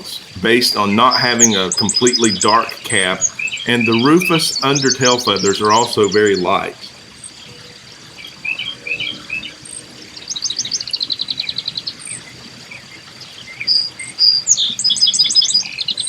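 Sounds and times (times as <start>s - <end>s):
faint high insect tone: 0.0s - 16.0s
songbirds chirping and trilling: 0.0s - 16.0s.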